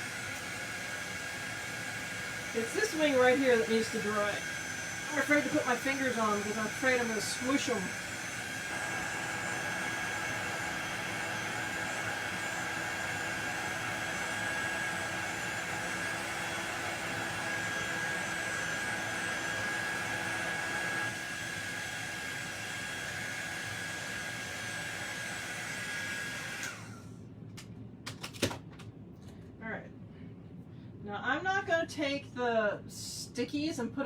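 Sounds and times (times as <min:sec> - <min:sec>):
hot-air dryer blowing with whine: 0:00.0 - 0:27.4.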